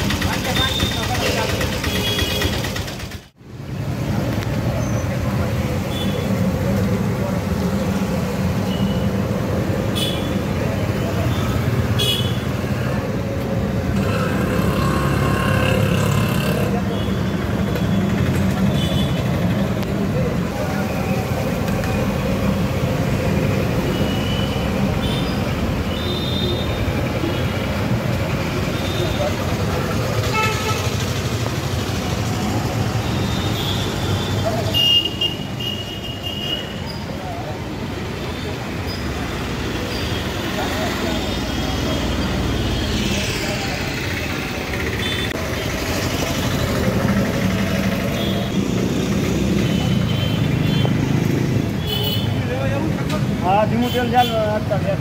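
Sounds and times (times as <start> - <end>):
street noise: 0.0 - 55.0.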